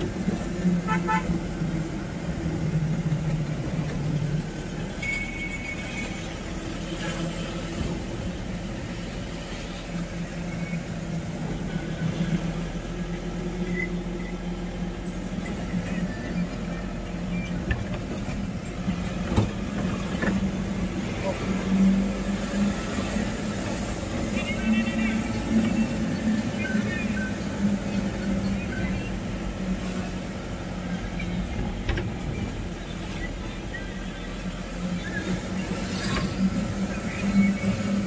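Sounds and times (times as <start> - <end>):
vehicle engine drone: 0.0 - 38.0.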